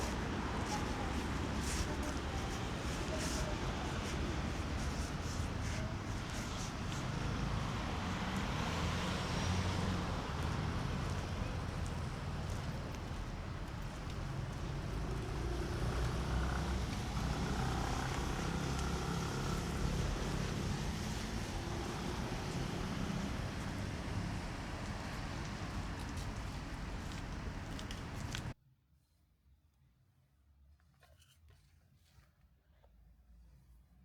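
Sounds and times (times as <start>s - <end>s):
cars passing: 0.0s - 28.6s.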